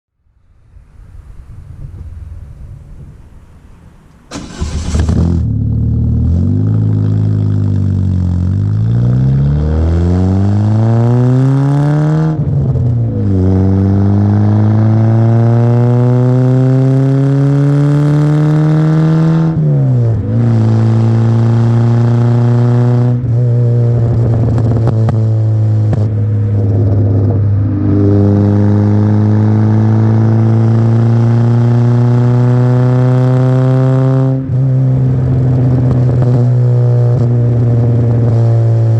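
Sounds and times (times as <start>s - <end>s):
car engine accelerating through gears: 4.3s - 38.9s.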